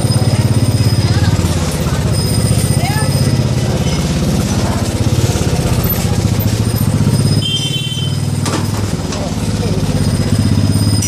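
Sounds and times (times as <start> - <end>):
motorbike engine running slowly: 0.0 - 11.0.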